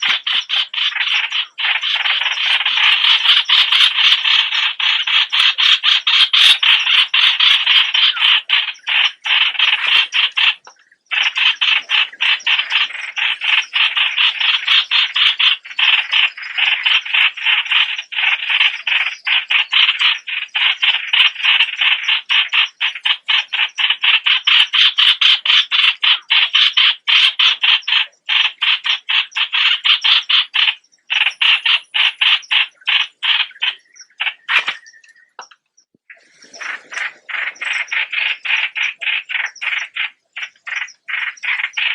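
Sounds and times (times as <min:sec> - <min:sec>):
bird harsh chattering call: 0:00.0 - 0:41.9.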